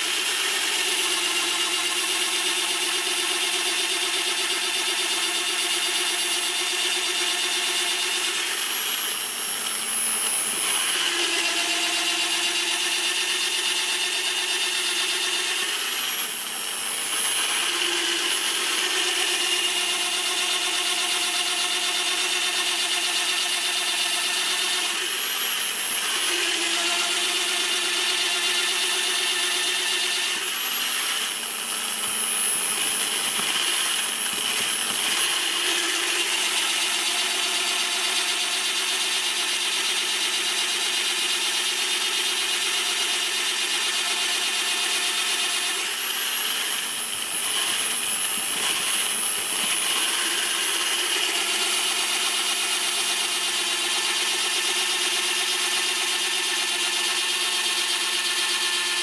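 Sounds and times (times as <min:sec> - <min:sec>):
drill press boring into wood: 0:00.0 - 0:59.0.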